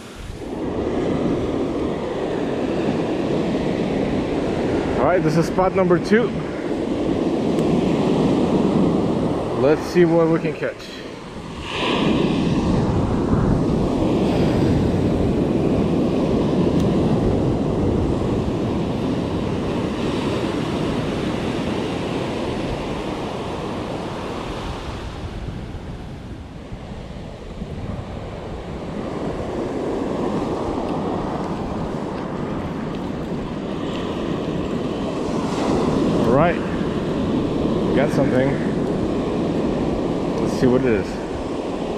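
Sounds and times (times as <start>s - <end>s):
surf breaking on shore: 0.0s - 41.9s.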